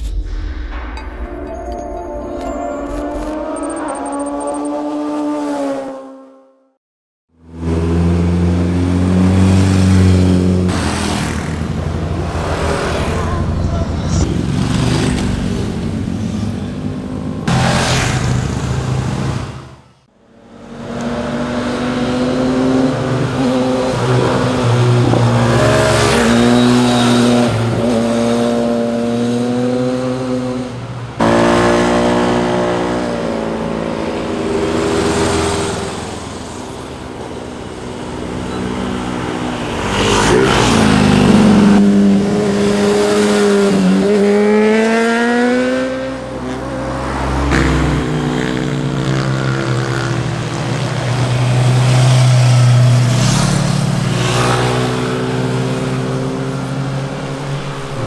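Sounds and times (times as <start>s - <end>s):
motorcycle engines passing: 7.6s - 19.6s, 20.4s - 58.0s.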